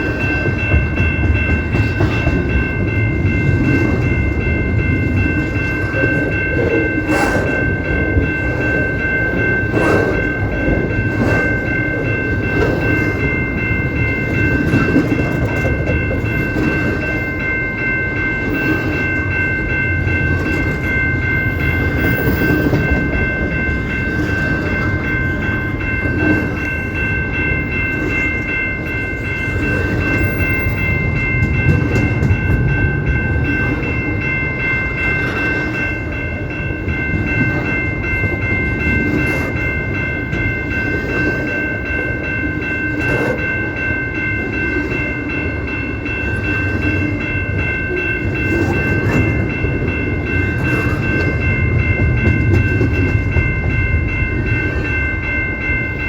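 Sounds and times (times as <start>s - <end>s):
wheels rumbling on rails: 0.0s - 56.0s.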